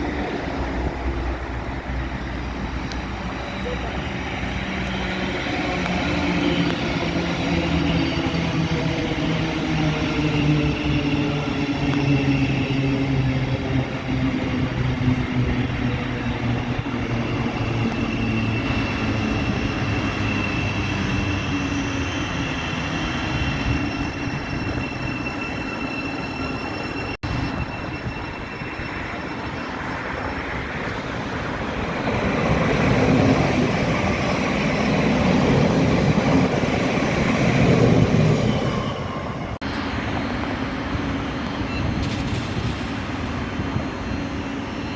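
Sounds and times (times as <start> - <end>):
train passing with rumble: 0.0 - 44.9
train traction hum and whine: 0.0 - 44.9.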